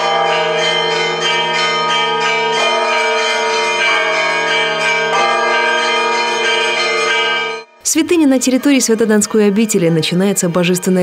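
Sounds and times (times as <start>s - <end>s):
church bells ringing a peal: 0.0s - 11.0s.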